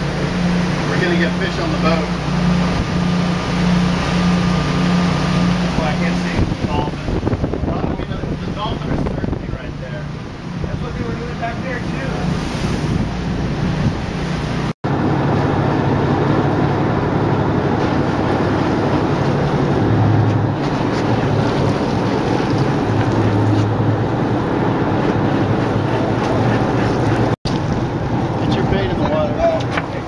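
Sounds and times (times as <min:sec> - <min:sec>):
boat engine droning: 0:00.0 - 0:30.0
water rushing: 0:00.0 - 0:30.0
wind noise on microphone: 0:00.0 - 0:30.0.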